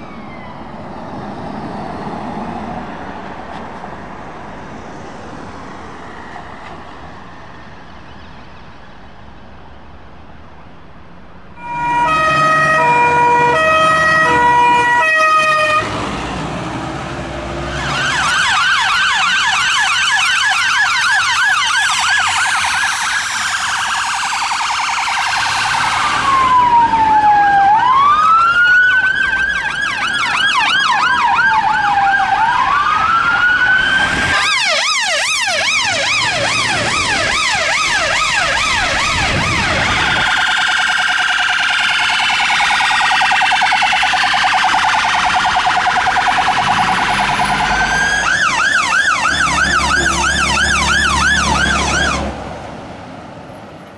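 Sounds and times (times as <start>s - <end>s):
emergency vehicle sirens: 0.0s - 8.9s, 11.5s - 53.9s.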